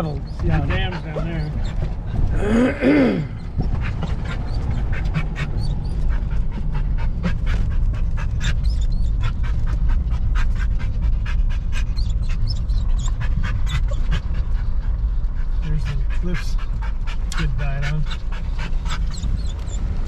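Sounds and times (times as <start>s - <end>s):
dog panting: 0.0s - 20.0s
steady low rumble: 0.0s - 20.0s.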